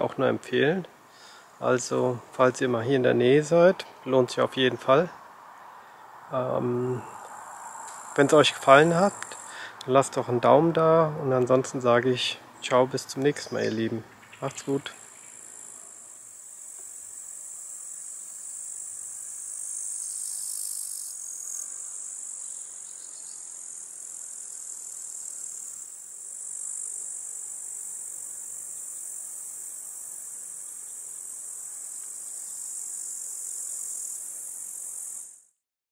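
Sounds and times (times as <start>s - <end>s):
insects chirring: 0.0s - 35.5s.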